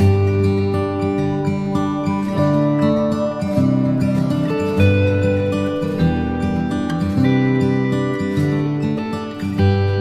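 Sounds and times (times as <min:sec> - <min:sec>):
plucked acoustic guitar chords: 0:00.0 - 0:10.0.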